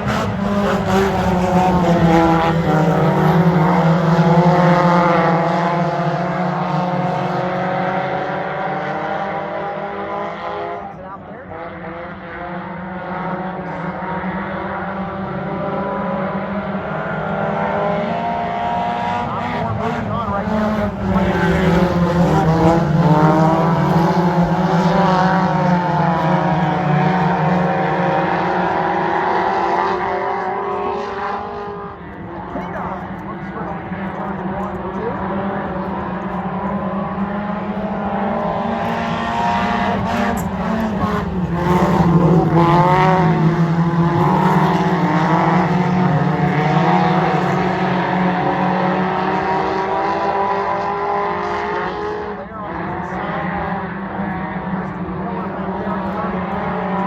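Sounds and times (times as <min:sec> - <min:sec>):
race car engines droning: 0:00.0 - 0:57.0.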